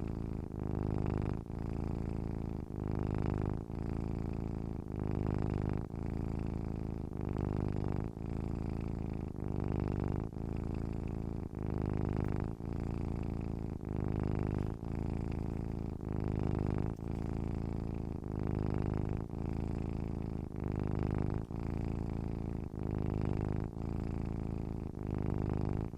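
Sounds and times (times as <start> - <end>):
cat purring: 0.0 - 25.9.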